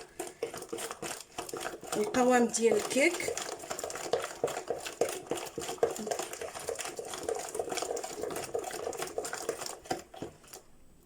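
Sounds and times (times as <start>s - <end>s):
utensil stirring batter in bowl: 0.0s - 11.0s.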